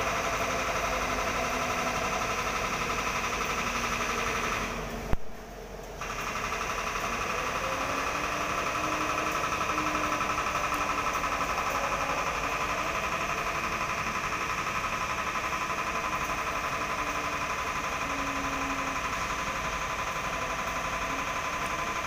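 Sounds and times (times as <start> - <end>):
electric train hum and whine: 0.0 - 22.0.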